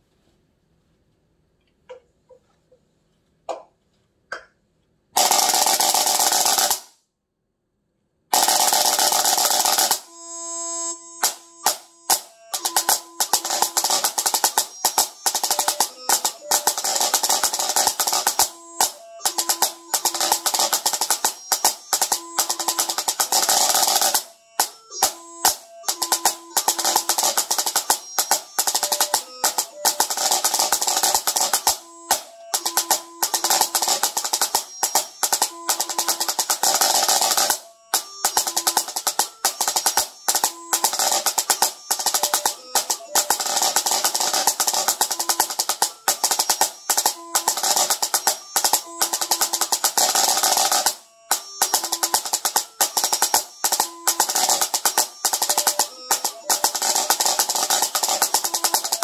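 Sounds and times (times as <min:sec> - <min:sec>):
snare drum rolls and strokes: 0:08.4 - 0:10.2, 0:11.2 - 0:59.0.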